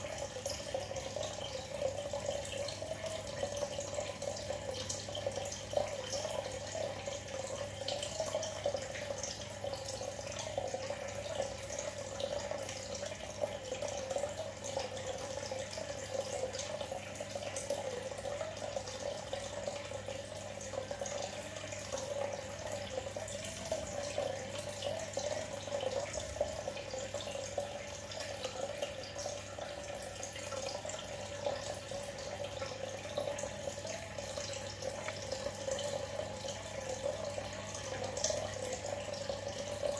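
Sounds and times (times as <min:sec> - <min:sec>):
aquarium bubbling: 0:00.0 - 0:39.9.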